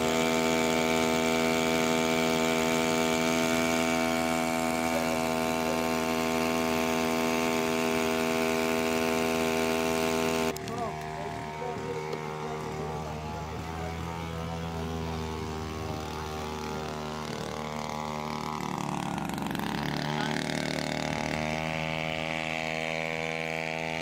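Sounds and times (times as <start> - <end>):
outboard engine running: 0.0 - 24.0.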